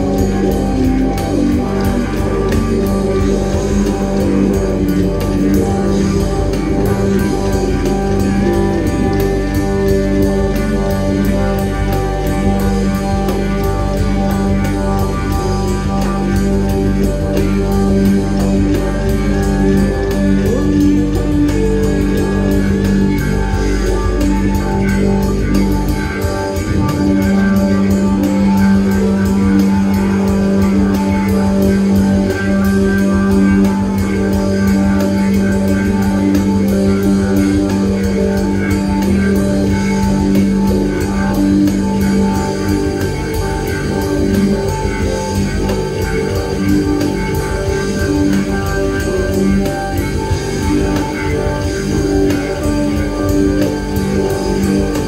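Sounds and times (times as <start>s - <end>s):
live rock band jamming: 0.0s - 55.0s.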